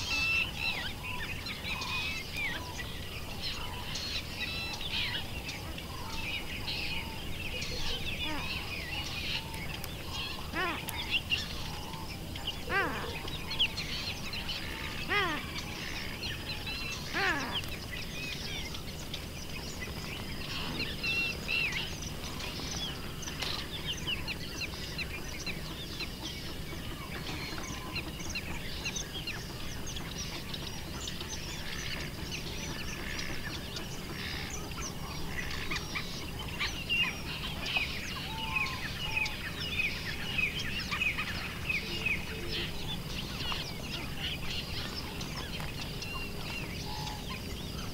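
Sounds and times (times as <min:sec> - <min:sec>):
louder low bird calls: 0:00.0 - 0:47.9
small birds chirping: 0:00.0 - 0:47.9.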